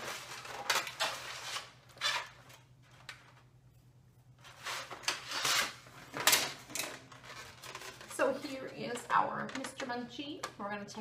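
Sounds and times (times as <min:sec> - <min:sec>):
cardboard and plastic packaging rustling: 0:00.0 - 0:03.5, 0:04.4 - 0:10.0.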